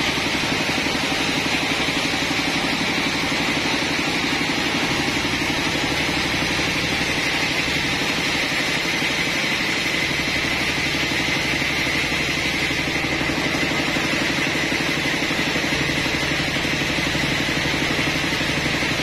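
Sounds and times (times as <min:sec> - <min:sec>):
sawmill engine drone: 0:00.0 - 0:19.0.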